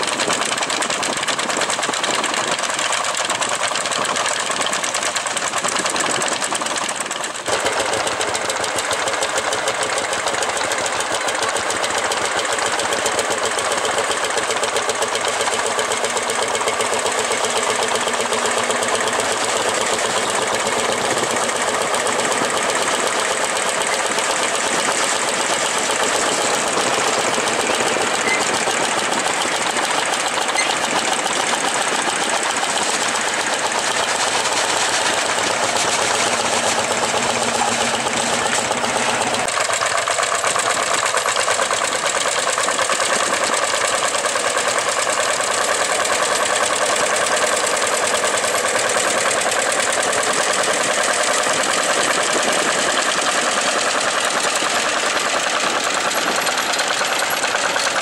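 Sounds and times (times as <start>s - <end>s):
tractor engines pulsing: 0.0s - 58.0s.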